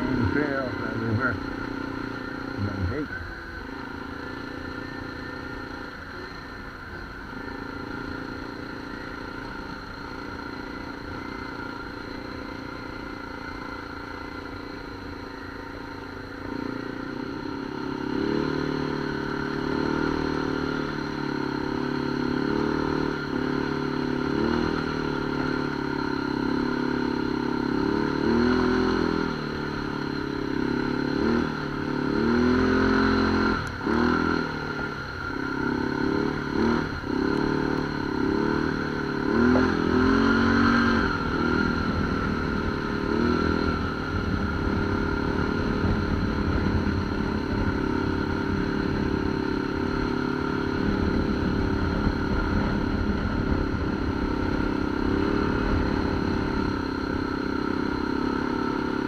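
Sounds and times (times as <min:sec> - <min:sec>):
off-road vehicle engine revving: 0:00.0 - 0:14.7, 0:16.4 - 0:59.0.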